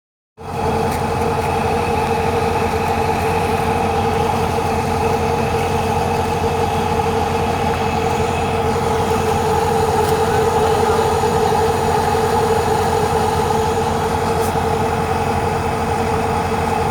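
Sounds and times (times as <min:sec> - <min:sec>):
heavy machine engine drone: 0:00.4 - 0:16.9
steady whine: 0:00.5 - 0:16.9.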